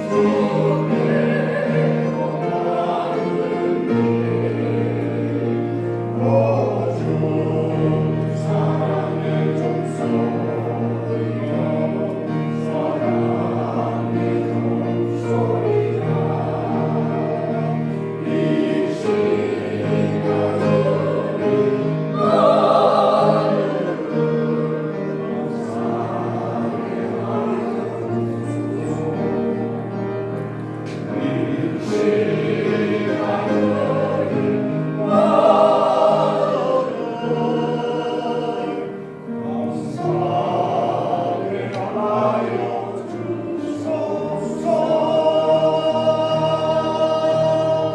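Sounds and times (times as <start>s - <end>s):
choir singing a hymn: 0.0s - 47.9s.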